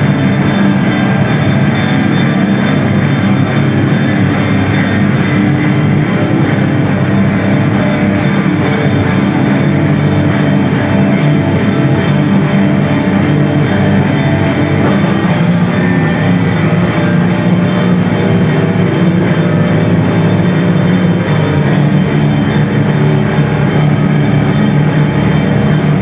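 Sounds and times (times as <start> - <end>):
distorted electric guitars: 0.0 - 26.0
drum kit with cymbals: 0.0 - 26.0.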